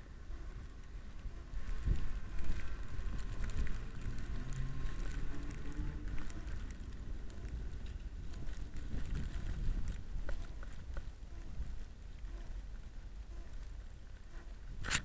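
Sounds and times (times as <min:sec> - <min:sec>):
road noise: 0:00.0 - 0:15.0
wind on microphone: 0:00.0 - 0:15.0.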